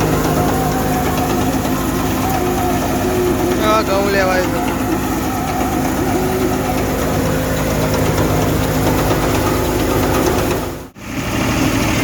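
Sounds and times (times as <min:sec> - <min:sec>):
threshing machine engine hum: 0:00.0 - 0:12.0.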